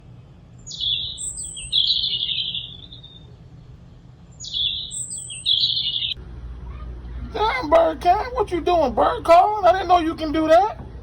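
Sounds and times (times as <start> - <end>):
bird song with buzzy trill: 0.6 - 3.6, 4.3 - 10.7.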